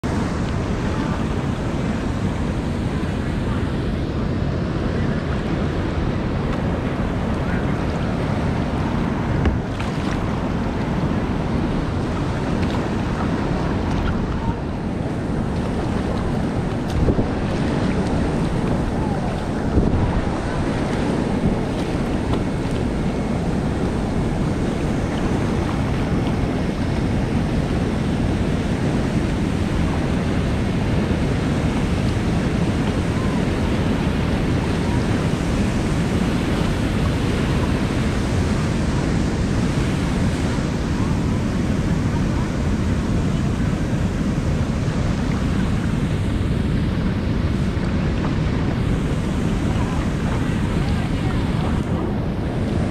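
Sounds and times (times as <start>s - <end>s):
water lapping around kayak: 0.0s - 52.9s
wind buffeting microphone: 0.0s - 52.9s
paddle stroke splash: 6.4s - 40.9s, 42.0s - 52.9s.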